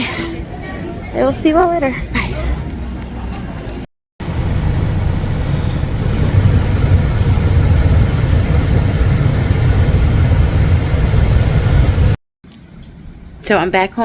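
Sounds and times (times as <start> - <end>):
vehicle engine and road rumble: 0.0 - 12.2.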